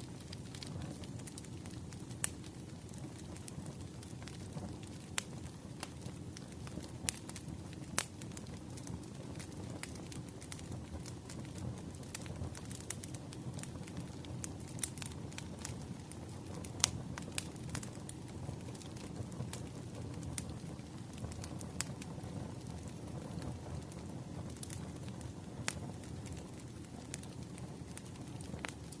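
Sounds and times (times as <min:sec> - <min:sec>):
fire pops and snaps: 0:00.0 - 0:29.0
wood fire crackling: 0:00.0 - 0:29.0.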